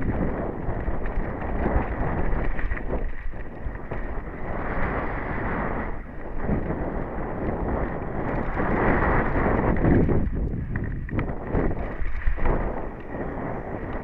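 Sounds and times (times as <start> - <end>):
bike rattling: 0.0 - 14.0
bike tyres rumbling over stones: 0.0 - 14.0
wind buffeting microphone: 0.0 - 14.0.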